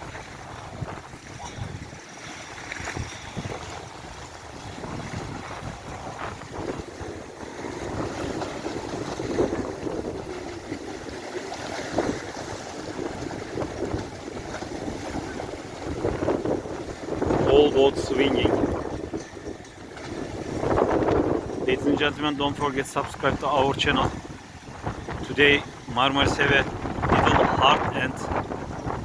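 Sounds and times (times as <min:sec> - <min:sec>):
choppy sea rushing: 0:00.0 - 0:29.0
gusty storm wind buffeting microphone: 0:00.0 - 0:29.0.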